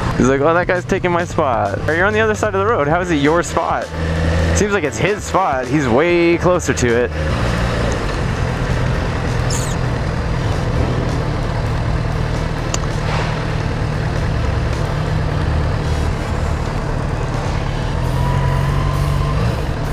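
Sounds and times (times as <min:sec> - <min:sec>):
motorcycle engine humming: 0:00.0 - 0:19.9
road and traffic noise: 0:00.0 - 0:19.9.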